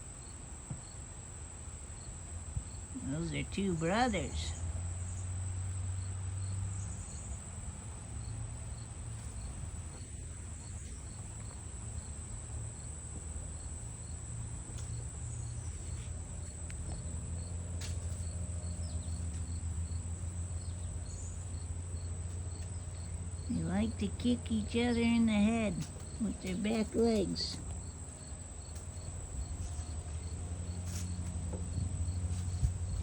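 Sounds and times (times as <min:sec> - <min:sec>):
crickets chirping: 0:00.0 - 0:33.0
low steady hum: 0:00.0 - 0:33.0.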